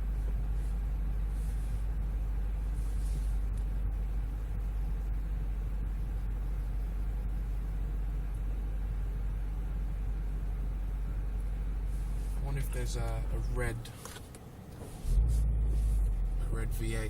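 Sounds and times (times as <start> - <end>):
car engine rumble from inside: 0.0 - 17.0.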